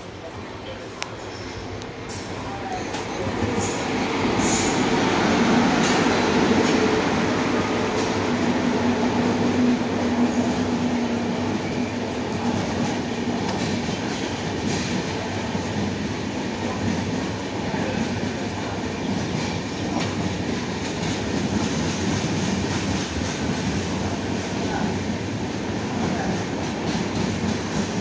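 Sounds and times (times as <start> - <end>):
train wheels rumbling and clattering: 1.0 - 28.0.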